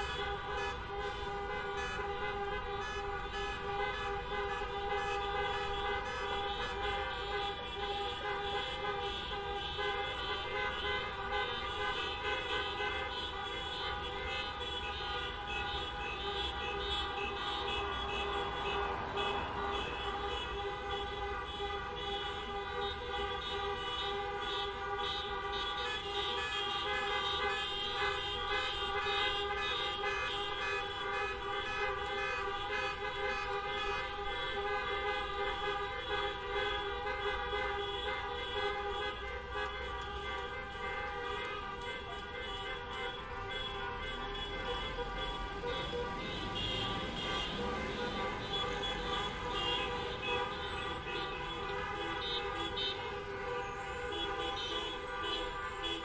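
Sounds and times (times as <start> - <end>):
car horns honking: 0.0 - 56.0
low traffic rumble: 0.0 - 56.0.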